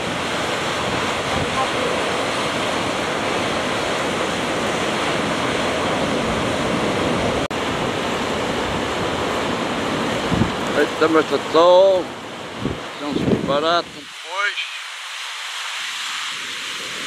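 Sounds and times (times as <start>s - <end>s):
surf breaking over rocks: 0.0s - 17.0s.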